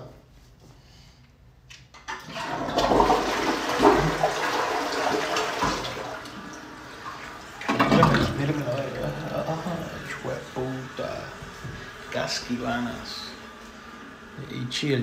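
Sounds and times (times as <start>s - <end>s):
toilet flushing: 2.0s - 15.0s.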